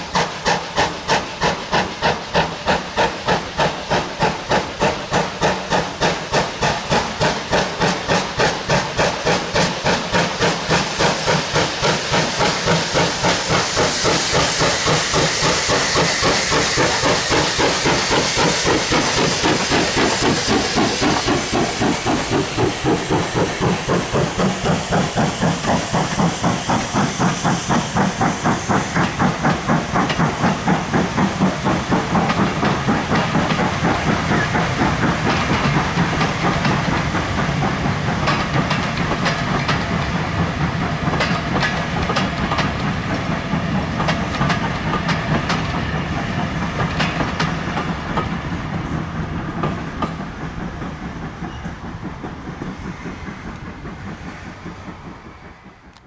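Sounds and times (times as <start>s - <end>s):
steam hiss: 0.0s - 55.9s
steam locomotive exhaust beats: 0.0s - 56.0s
wheels clicking over rail joints: 0.4s - 56.0s.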